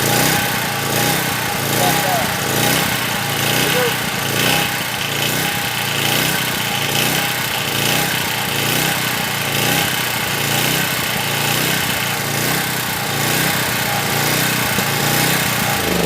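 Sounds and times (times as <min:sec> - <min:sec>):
small generator engine pulsing: 0:00.0 - 0:16.0.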